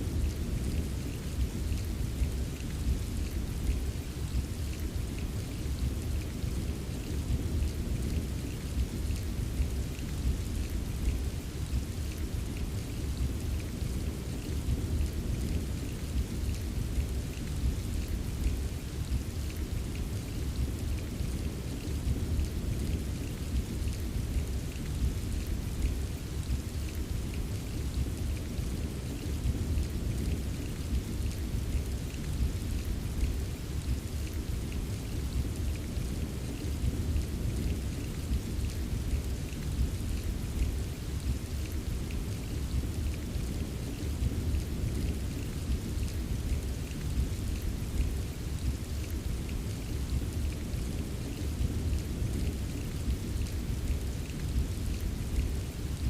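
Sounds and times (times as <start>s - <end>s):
rainfall with drop ticks: 0.0s - 56.0s.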